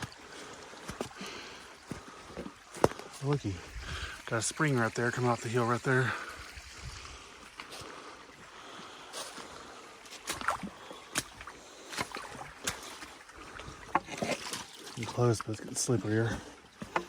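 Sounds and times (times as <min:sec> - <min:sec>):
boots splashing in stream: 0:00.0 - 0:17.0
running water: 0:00.0 - 0:17.0.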